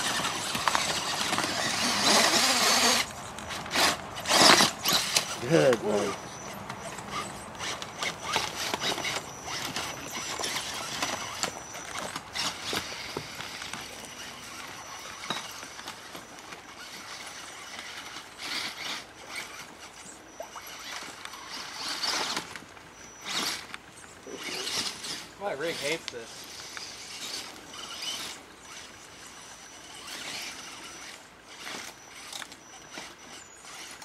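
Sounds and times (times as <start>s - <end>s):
toy truck motor whirring: 0.0s - 34.0s.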